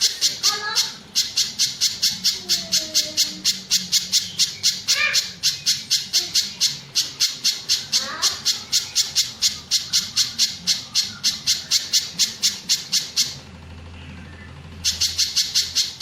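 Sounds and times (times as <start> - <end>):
bird high sharp chips: 0.0 - 13.4, 14.8 - 16.0.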